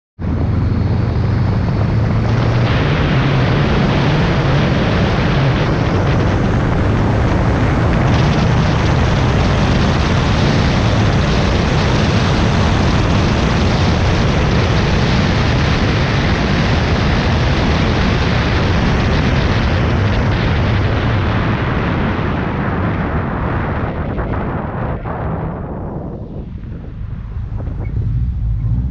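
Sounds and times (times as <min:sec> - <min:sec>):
car engine running: 0:00.2 - 0:21.4, 0:26.2 - 0:28.9
wind buffeting microphone: 0:00.2 - 0:28.9.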